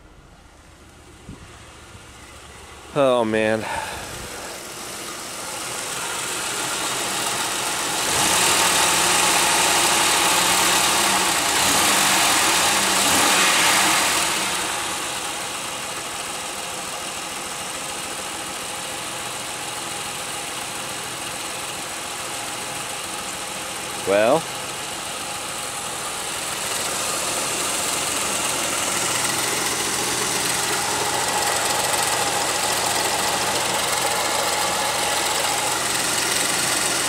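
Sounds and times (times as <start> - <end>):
engine idling rough: 0.0 - 37.0.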